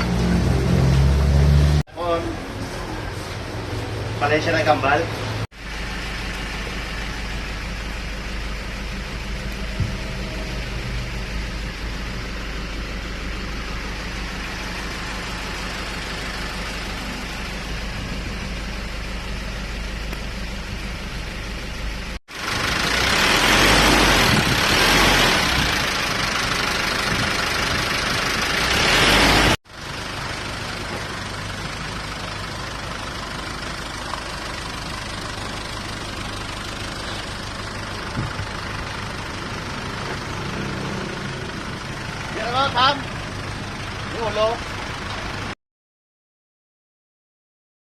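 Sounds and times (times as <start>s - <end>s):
vehicle engine idling: 0.0s - 29.0s, 29.7s - 45.6s.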